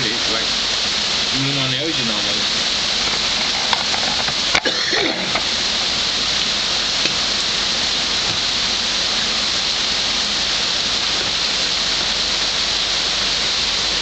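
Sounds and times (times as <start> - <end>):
heavy rain on pavement: 0.0 - 14.0.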